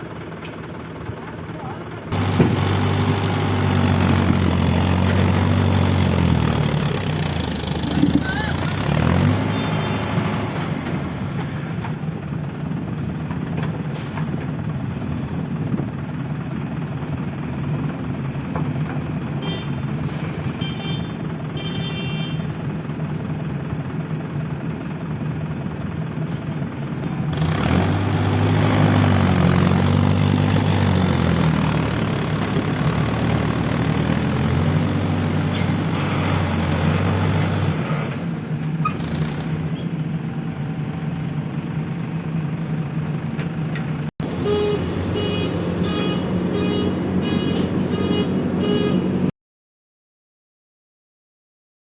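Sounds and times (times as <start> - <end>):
backhoe loader engine running: 0.0 - 49.3
tractor diesel engine running: 0.0 - 49.3.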